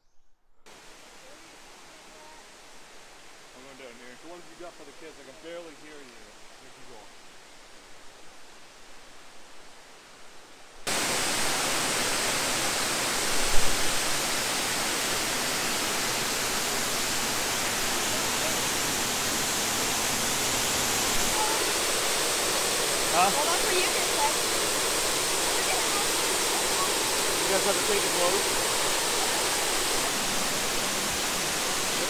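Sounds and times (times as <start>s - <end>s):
waterfall rushing: 0.7s - 7.1s, 10.9s - 32.0s.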